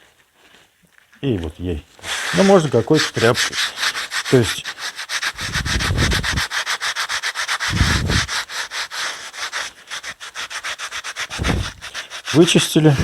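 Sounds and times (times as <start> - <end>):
mitten rubbing on brickwork: 0.0 - 13.0.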